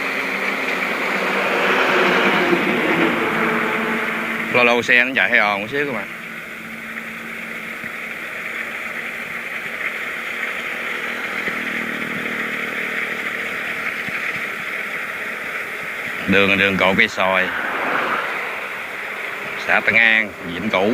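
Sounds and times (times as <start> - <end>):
combine harvester running: 0.0 - 20.9.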